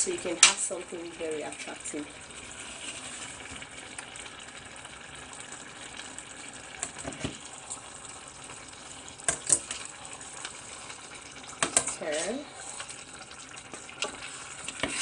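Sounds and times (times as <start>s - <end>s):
soup sizzling and bubbling: 0.0s - 15.0s.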